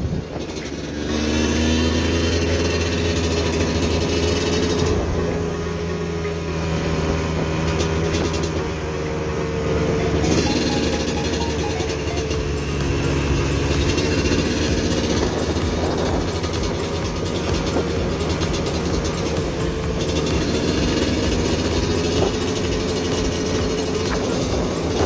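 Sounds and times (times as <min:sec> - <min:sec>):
vehicle engine running: 0:00.0 - 0:25.0
wind and tyre noise: 0:00.0 - 0:25.0.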